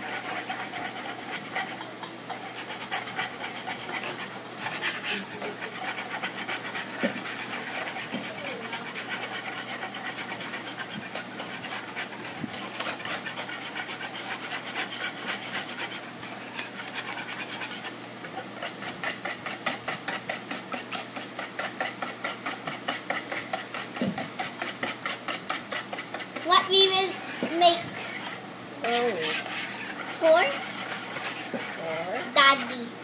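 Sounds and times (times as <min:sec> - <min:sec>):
whisk beating batter in bowl: 0:00.0 - 0:33.0.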